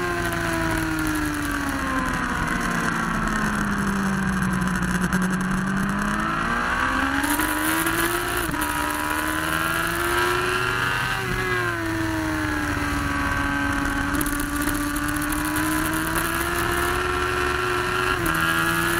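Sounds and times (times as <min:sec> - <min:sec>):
motorcycle engine accelerating: 0:00.0 - 0:18.9.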